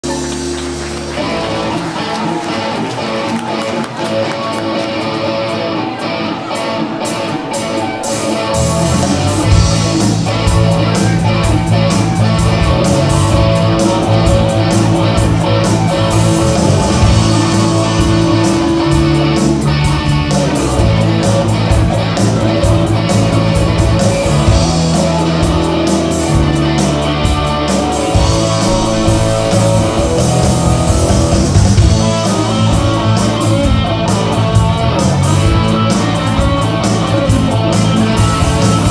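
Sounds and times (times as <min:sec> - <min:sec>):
electric guitar: 0:00.0 - 0:38.9
live rock band playing: 0:00.0 - 0:38.9.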